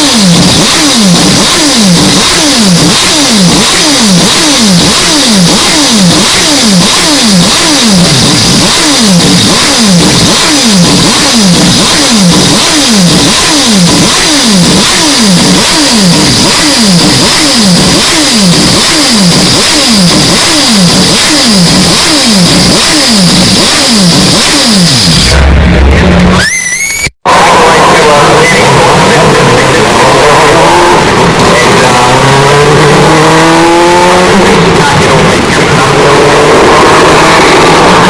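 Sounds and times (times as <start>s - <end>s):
rotary engine revving: 0.0s - 26.4s, 27.8s - 38.0s.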